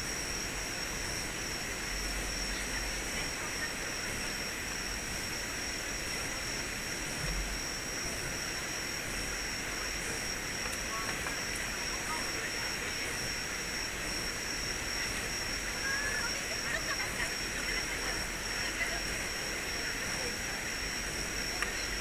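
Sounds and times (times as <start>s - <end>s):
constant high-pitched whine: 0.0s - 22.0s.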